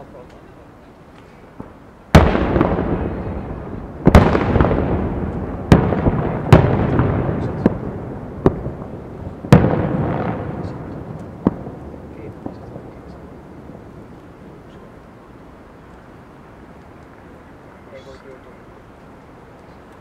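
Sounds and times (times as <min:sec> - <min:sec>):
firework shells bursting: 0:01.0 - 0:17.7.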